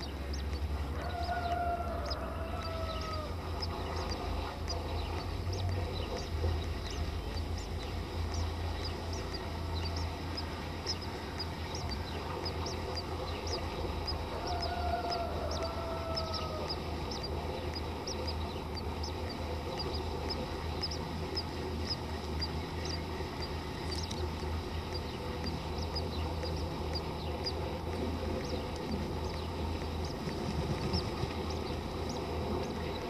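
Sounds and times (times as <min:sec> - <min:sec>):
small birds chip calls: 0:00.0 - 0:33.0
steady low hum: 0:00.0 - 0:33.0.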